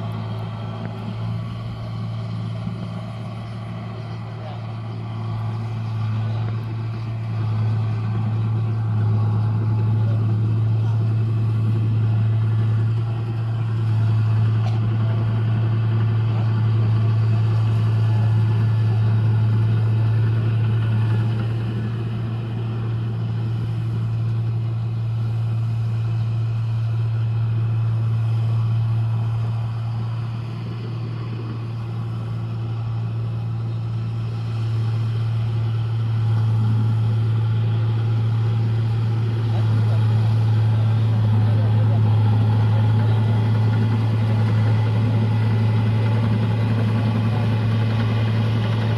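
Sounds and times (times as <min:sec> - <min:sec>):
harvester diesel engine humming: 0:00.0 - 0:48.9.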